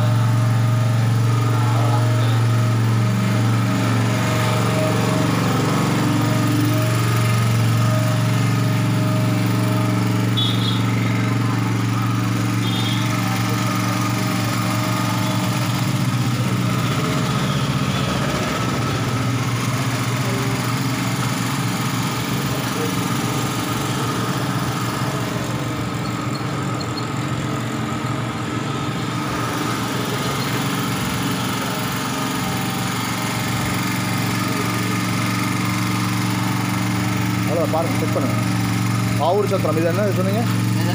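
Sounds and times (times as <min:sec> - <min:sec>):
portable generator engine running: 0:00.0 - 0:40.9.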